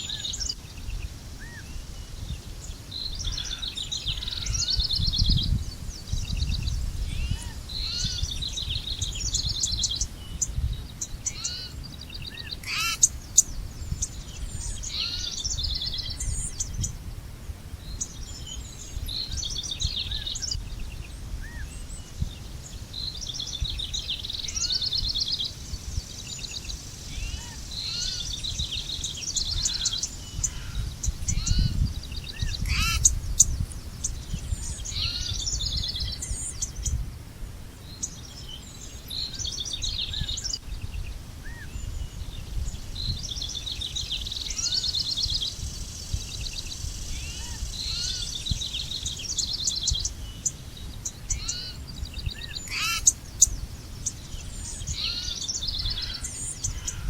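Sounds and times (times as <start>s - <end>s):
small birds chirping and singing: 0.0s - 57.0s
wind rumble on microphone: 0.0s - 57.0s.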